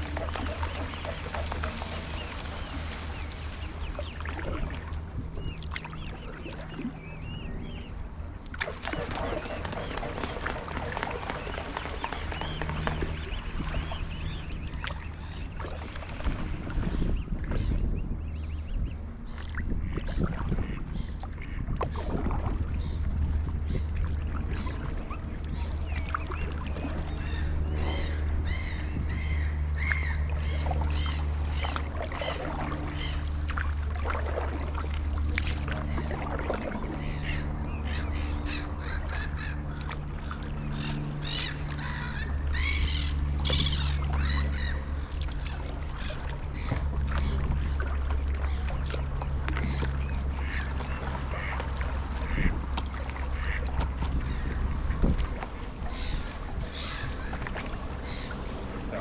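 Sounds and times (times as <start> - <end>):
low rumble: 0.0 - 59.0
water birds calling: 0.0 - 59.0.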